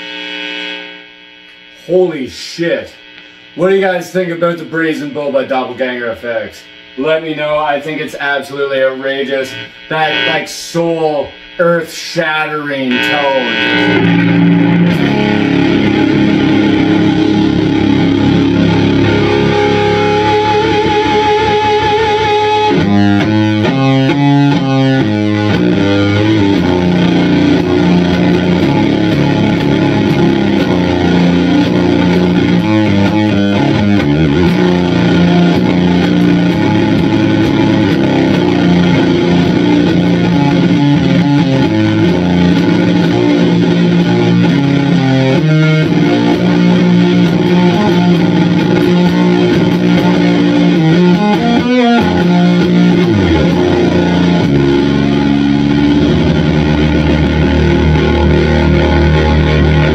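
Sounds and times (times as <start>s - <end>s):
fuzz-distorted electric guitar riff: 0.0s - 59.9s.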